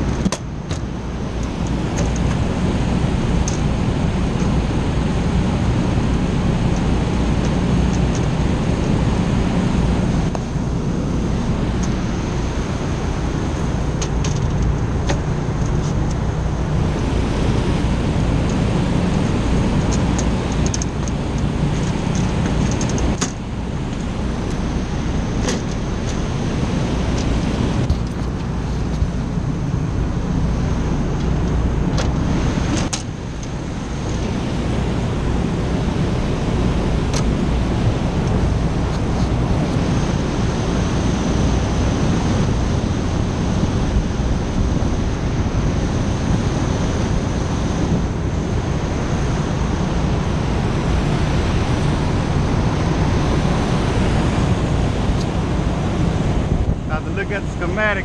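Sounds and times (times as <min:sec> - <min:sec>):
faint high motor whine: 0:00.0 - 0:58.0
ventilation fan drone: 0:00.0 - 0:58.0.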